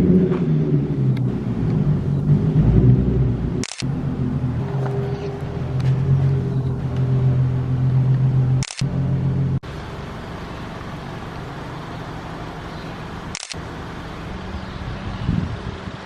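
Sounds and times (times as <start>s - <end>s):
car and road noise hum: 0.0s - 16.0s
car engine drone: 0.0s - 16.0s.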